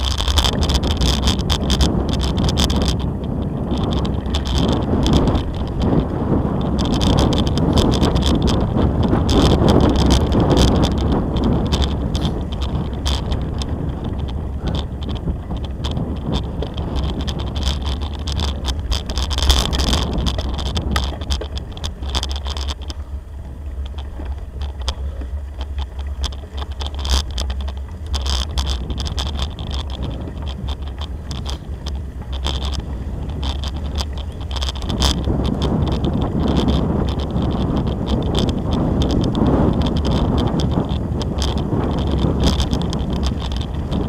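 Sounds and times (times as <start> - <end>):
bicycle tyres rolling on dirt: 0.0 - 44.0
bike rattling over bumps: 0.0 - 44.0.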